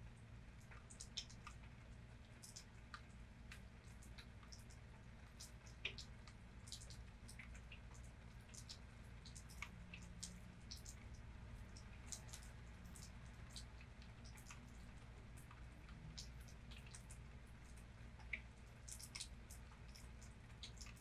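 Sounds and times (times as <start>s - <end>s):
rain drops ticking: 0.0s - 21.0s.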